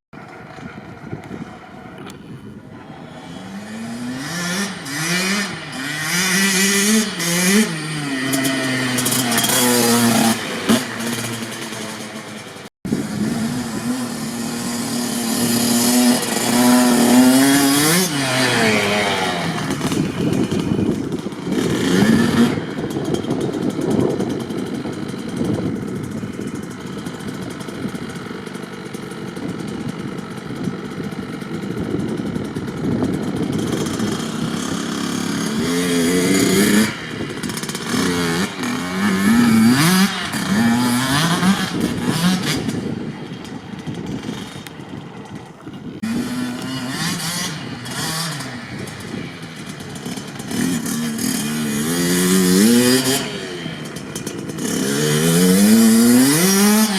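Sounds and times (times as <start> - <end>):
dirt bike engine revving: 2.7 - 56.9.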